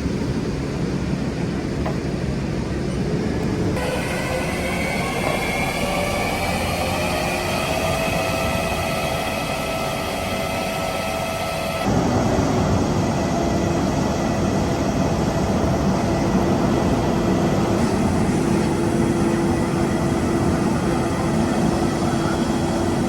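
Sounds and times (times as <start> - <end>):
heavy machinery drone: 3.4 - 23.0.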